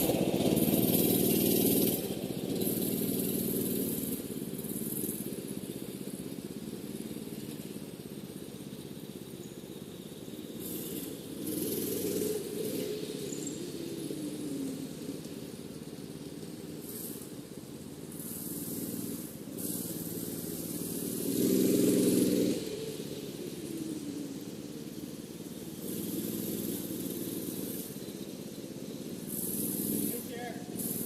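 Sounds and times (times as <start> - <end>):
mini bike engine revving: 0.0 - 31.0.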